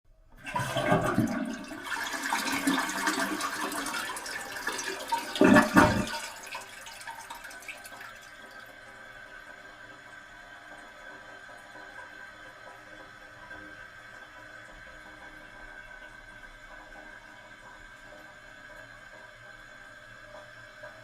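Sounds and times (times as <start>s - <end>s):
toilet flushing: 0.3s - 21.0s
toilet refilling hiss: 0.4s - 21.0s.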